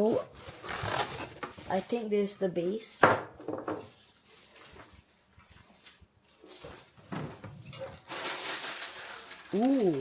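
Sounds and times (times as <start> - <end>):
packaging rustling: 0.3 - 2.3, 3.8 - 10.0.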